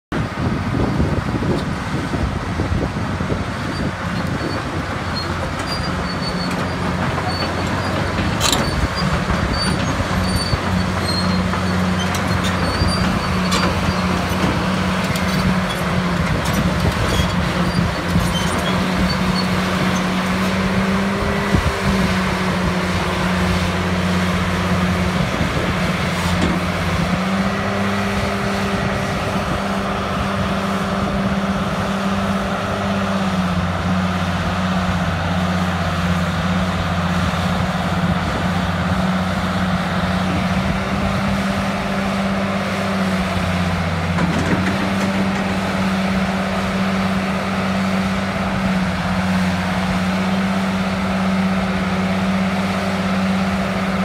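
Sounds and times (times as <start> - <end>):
excavator diesel engine running: 0.2 - 54.0.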